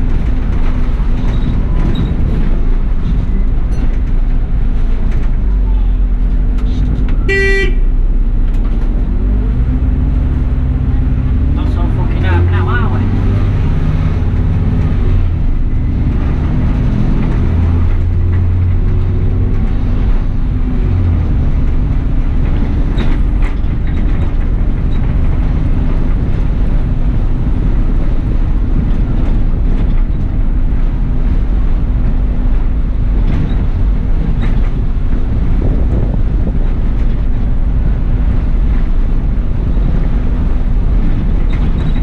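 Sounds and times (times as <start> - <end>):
bus engine hum: 0.0 - 42.0
road rumble: 0.0 - 42.0.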